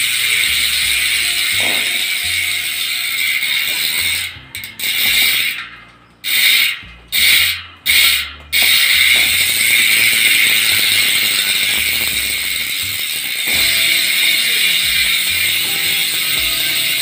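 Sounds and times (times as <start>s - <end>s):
bicycle freehub clicking buzz: 0.0s - 17.0s.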